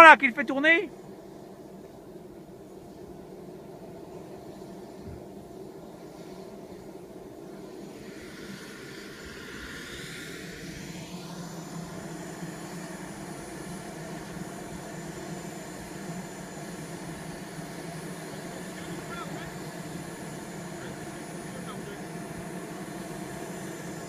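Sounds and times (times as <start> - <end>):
model jet engine whine: 0.0 - 24.0.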